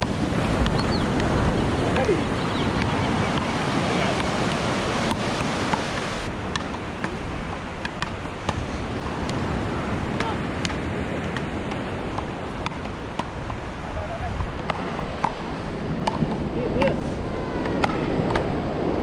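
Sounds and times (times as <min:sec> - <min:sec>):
surf washing onto beach: 0:00.0 - 0:19.0
wind on microphone: 0:00.0 - 0:19.0.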